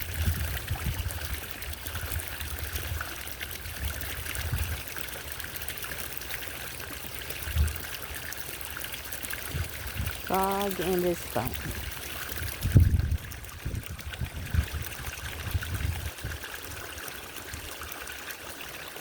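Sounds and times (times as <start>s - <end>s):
fountain water trickling: 0.0s - 19.0s.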